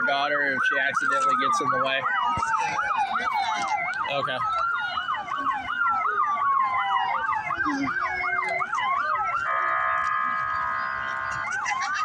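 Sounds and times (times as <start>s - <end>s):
siren wailing slowly: 0.0s - 12.0s
siren yelping fast: 0.0s - 12.0s.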